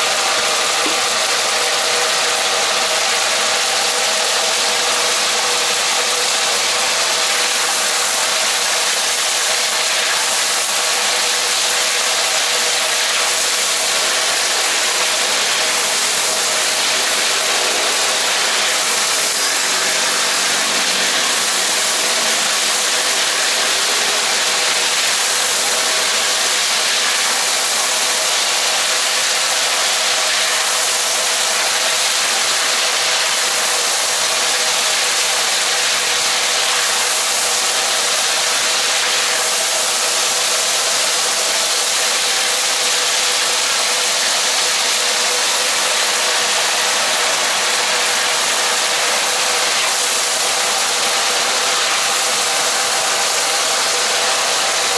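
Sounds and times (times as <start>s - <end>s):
gas burner roaring: 0.0s - 54.9s
liquid bubbling and sizzling: 0.0s - 54.9s.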